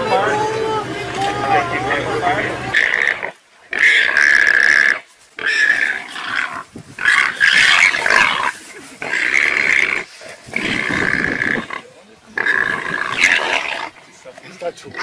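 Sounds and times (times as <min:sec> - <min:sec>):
warthog squealing: 0:00.0 - 0:14.1.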